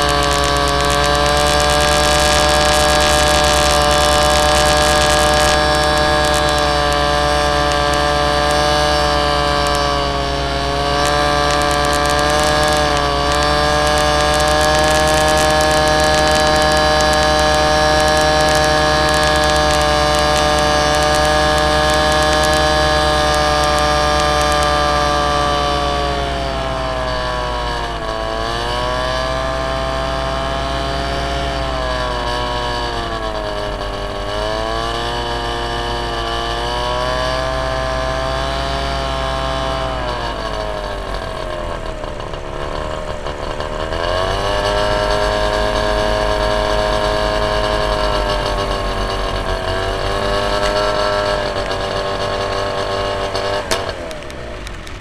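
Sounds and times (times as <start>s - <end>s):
model aircraft motor whine: 0.0s - 55.0s.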